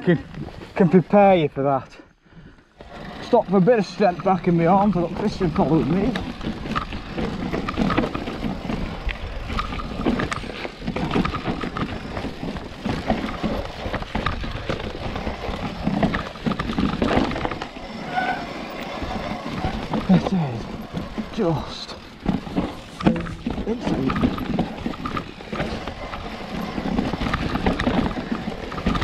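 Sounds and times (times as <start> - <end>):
bike rattling over stones: 0.0 - 1.9, 2.6 - 29.0.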